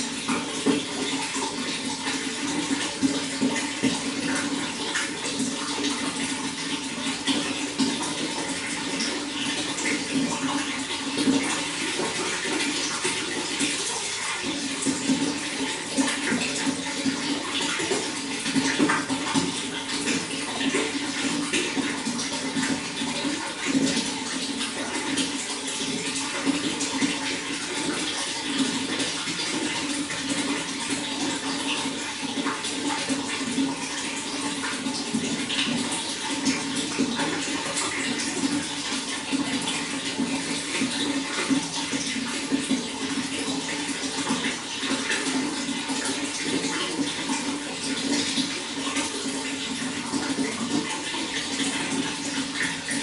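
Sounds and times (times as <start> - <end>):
running water splashing: 0.0 - 53.0.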